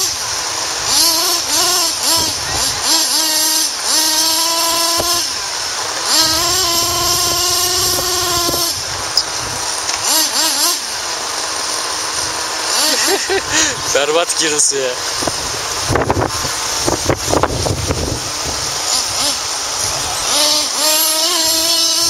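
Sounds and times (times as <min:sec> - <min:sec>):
toy truck motor revving: 0:00.0 - 0:22.0
wheels spinning in wet mud: 0:00.0 - 0:22.0.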